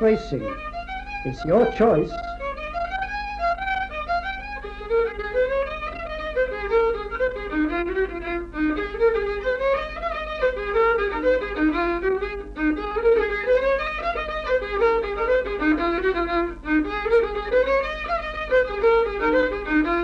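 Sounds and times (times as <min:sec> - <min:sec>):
fiddle playing dance tune: 0:00.0 - 0:20.0
steady low hum: 0:00.0 - 0:20.0.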